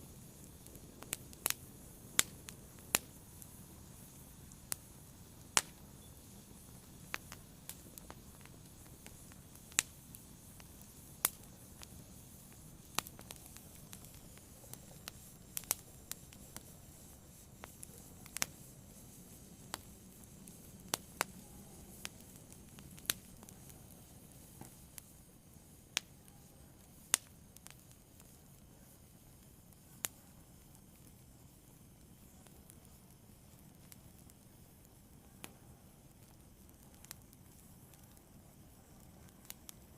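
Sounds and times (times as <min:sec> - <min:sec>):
fire crackling and popping: 0:00.0 - 0:39.9
fire rushing hiss: 0:00.0 - 0:39.9.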